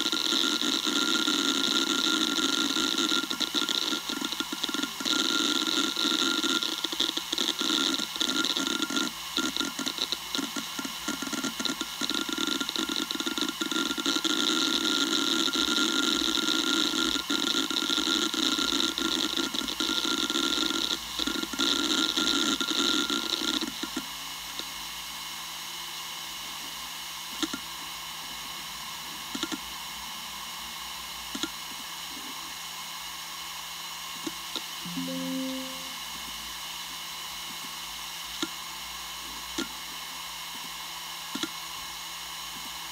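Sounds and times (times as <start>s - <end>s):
hard drive whine and hiss: 0.0s - 36.2s.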